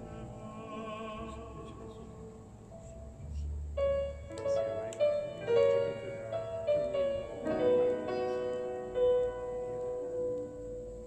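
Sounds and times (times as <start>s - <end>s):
piano music over speakers: 0.0s - 11.0s.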